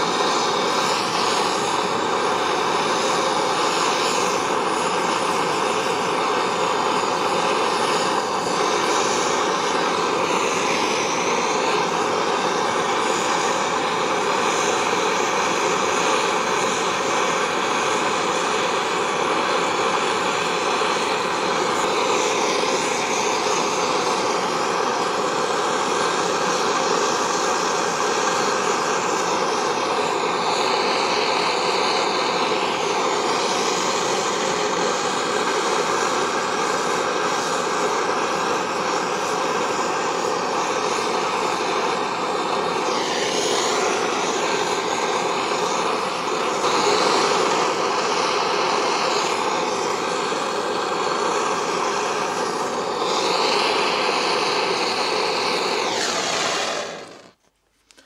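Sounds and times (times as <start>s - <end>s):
gas blowtorch roaring: 0.0s - 57.4s.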